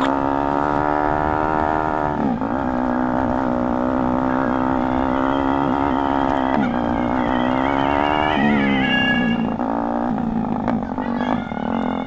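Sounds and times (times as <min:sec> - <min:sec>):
motorcycle engine with loud exhaust: 0:00.0 - 0:12.0.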